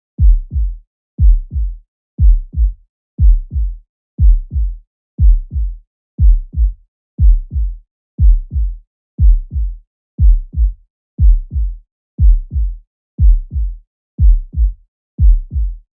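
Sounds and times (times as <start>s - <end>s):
heartbeat lub-dub: 0.2s - 15.9s.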